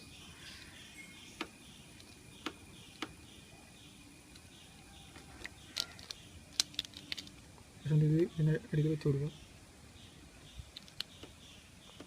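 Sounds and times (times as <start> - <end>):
faint repeating chirping: 0.0 - 12.0.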